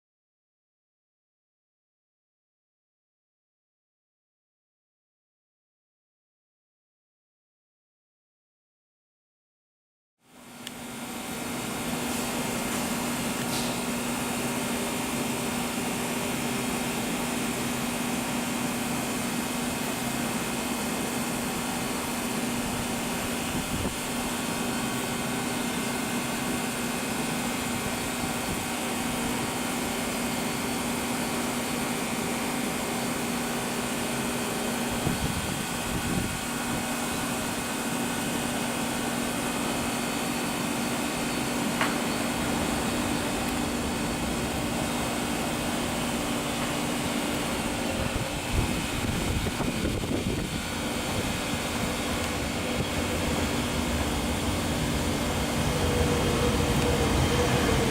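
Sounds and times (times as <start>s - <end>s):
jet engines running: 10.4s - 57.9s.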